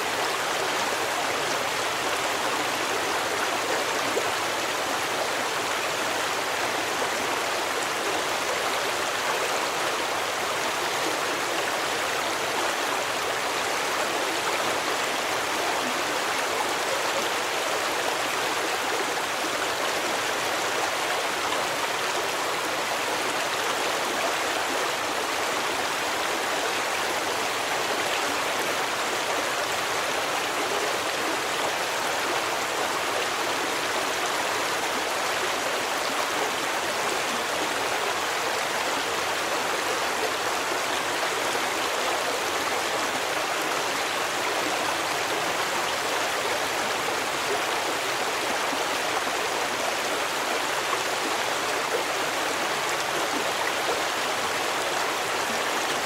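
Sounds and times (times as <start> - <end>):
forest stream rushing: 0.0 - 56.0.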